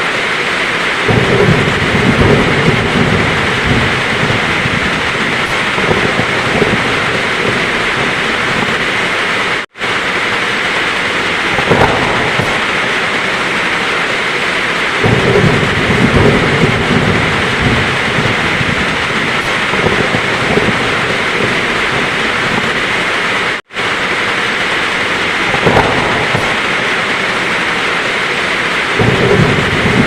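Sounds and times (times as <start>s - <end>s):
heavy rain falling: 0.0s - 30.0s
thunder rumbling: 0.0s - 30.0s.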